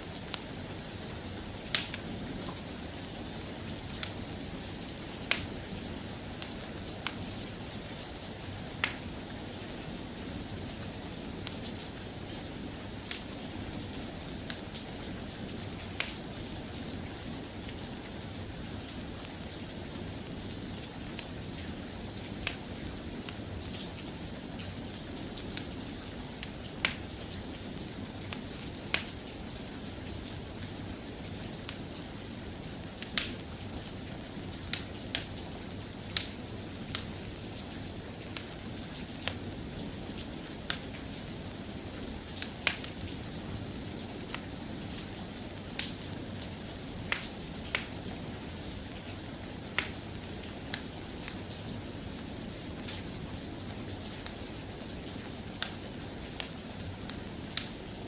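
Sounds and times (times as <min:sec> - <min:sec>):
soft rain: 0:00.0 - 0:58.0.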